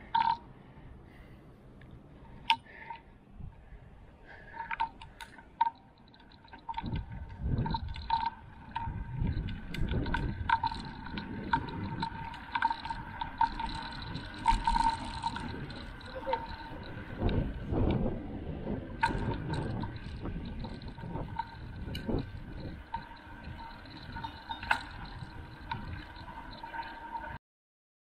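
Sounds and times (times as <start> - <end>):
faint steady whine: 0.0 - 27.4
wind and road rumble: 0.0 - 27.4.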